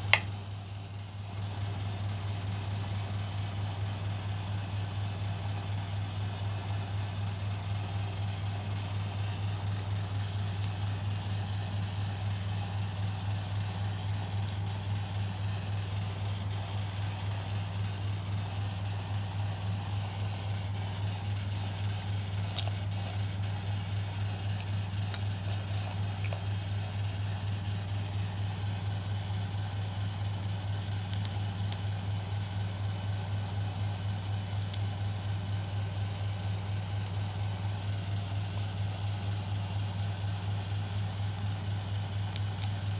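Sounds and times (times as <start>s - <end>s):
washing machine motor humming: 0.0s - 42.9s.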